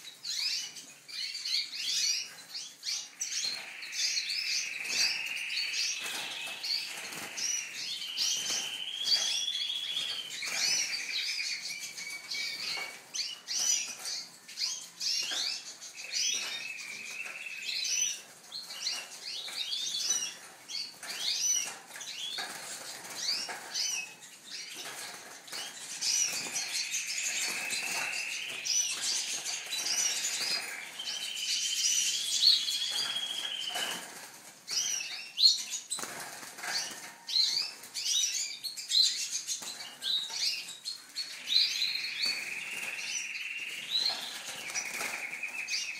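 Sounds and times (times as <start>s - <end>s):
small birds chirping: 0.0s - 45.9s
bird trill: 0.3s - 24.9s, 25.5s - 34.1s, 34.7s - 45.9s.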